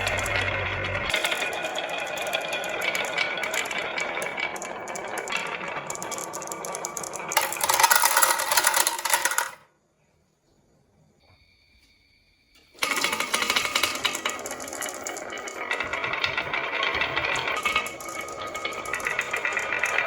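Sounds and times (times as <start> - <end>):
marbles clattering down marble run: 0.0 - 9.7, 12.8 - 20.0.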